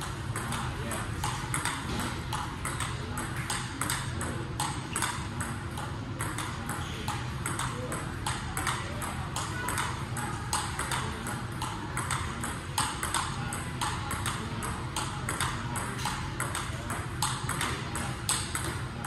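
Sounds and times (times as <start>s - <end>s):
table tennis ball clicks: 0.4s - 18.8s.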